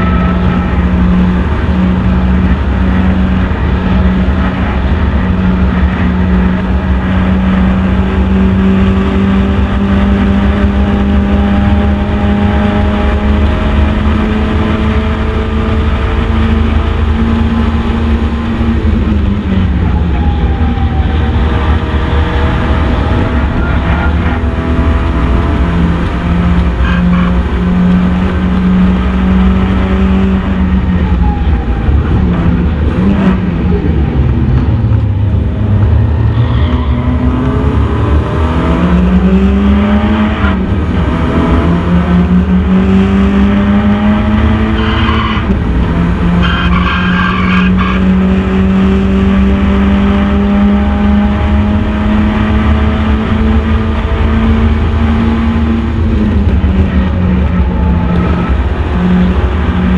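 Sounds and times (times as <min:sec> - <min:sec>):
low wind rumble: 0:00.0 - 0:46.5, 0:48.0 - 0:59.9
race car engine running hard: 0:00.0 - 0:59.9.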